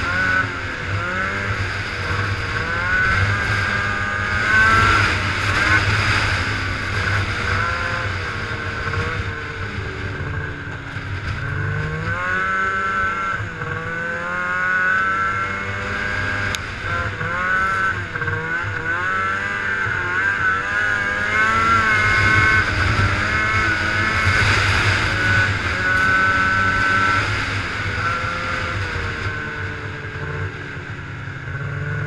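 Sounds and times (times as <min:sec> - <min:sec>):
snowmobile engine revving: 0:00.0 - 0:32.0.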